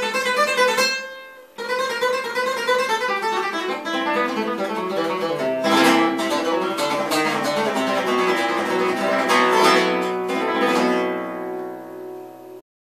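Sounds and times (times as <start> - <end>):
solo spanish guitar: 0.0 - 12.6.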